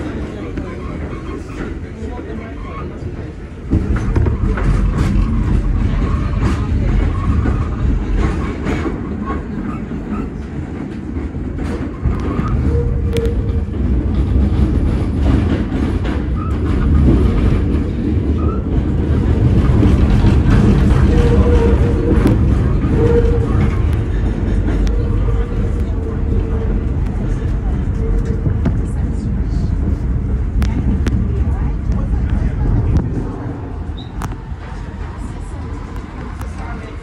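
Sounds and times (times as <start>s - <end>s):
subway train rumbling in tunnel: 0.0s - 37.0s
wheels clacking on track: 0.0s - 37.0s.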